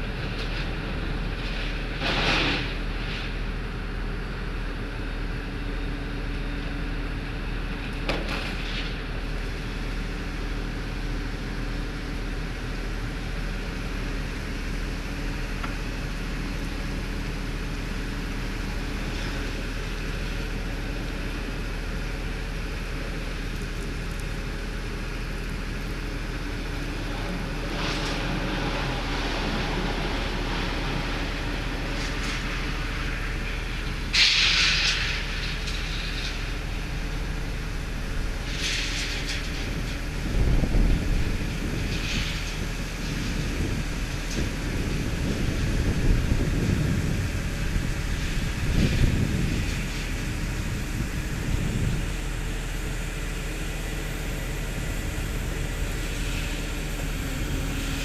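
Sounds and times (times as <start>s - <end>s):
excavator diesel engines running: 0.0s - 58.0s.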